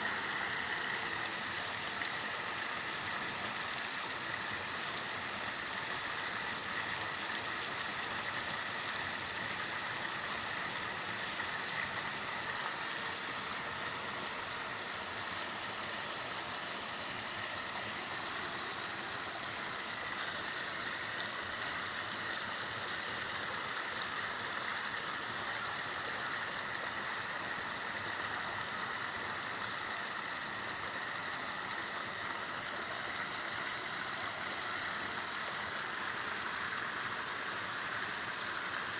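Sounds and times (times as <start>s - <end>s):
steady watery hiss: 0.0s - 38.9s.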